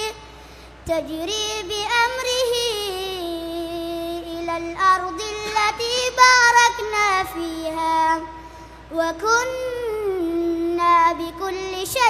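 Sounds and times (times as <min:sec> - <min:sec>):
boy chanting melodically: 0:00.8 - 0:12.0.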